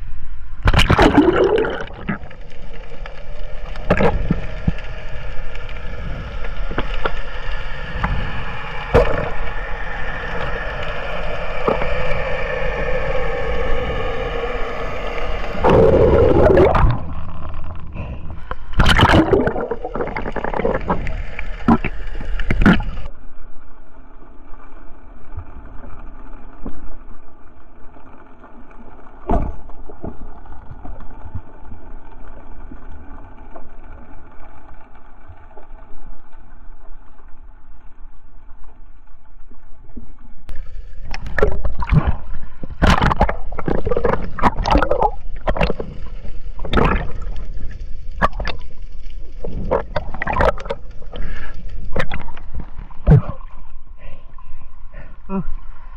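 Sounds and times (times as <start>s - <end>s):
muffled underwater hum: 0.0s - 55.9s
underwater bubbling and sloshing: 0.0s - 55.9s.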